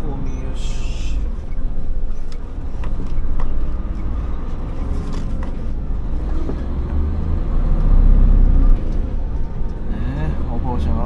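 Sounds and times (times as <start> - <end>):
truck diesel engine drone in cab: 0.0 - 11.0.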